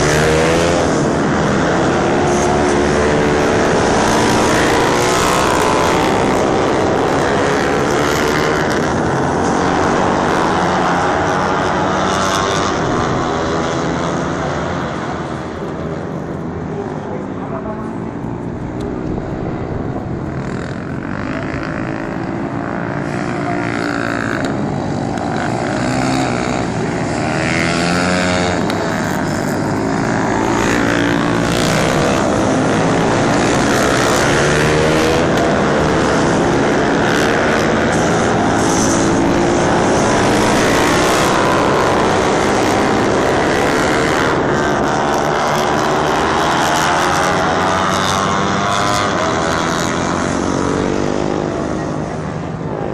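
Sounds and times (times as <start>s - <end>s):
motorcycle engines revving: 0.0s - 52.9s.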